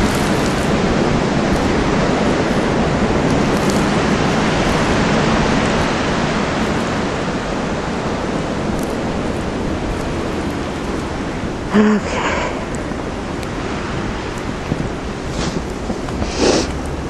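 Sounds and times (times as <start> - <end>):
blizzard wind blowing: 0.0 - 17.0
wind buffeting microphone: 0.0 - 17.0.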